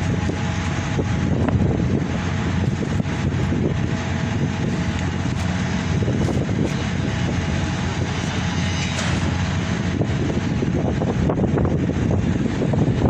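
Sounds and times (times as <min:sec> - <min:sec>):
truck diesel engine droning: 0:00.0 - 0:13.0
wind buffeting microphone: 0:00.0 - 0:13.0.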